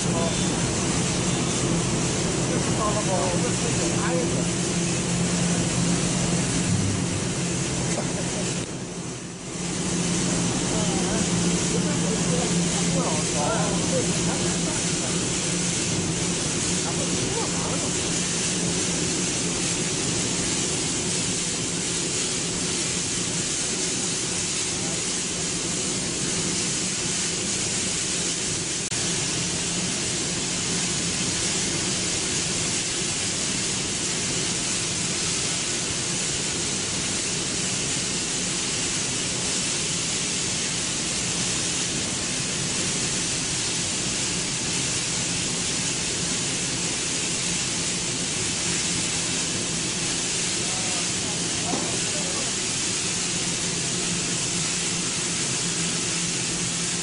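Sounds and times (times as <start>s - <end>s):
factory machinery hiss and hum: 0.0s - 57.0s.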